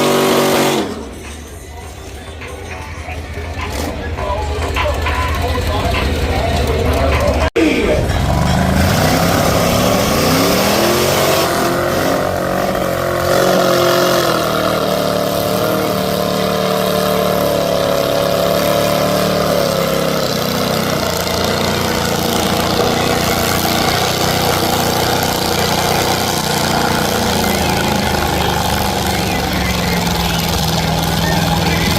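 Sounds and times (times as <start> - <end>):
truck engine revving: 0.0 - 2.2, 3.1 - 31.9.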